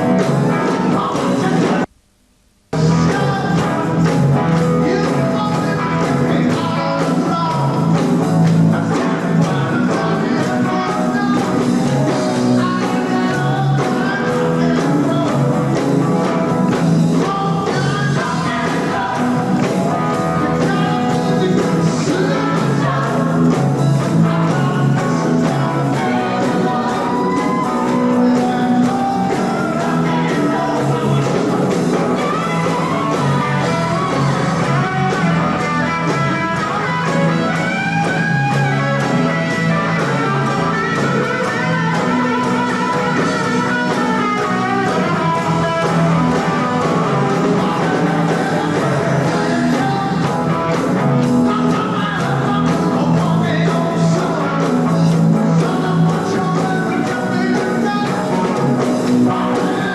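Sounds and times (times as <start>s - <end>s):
electric guitar: 0.0s - 1.9s, 2.7s - 59.9s
live rock band playing: 0.0s - 1.9s, 2.8s - 59.9s
person singing: 0.0s - 1.9s, 2.8s - 59.9s.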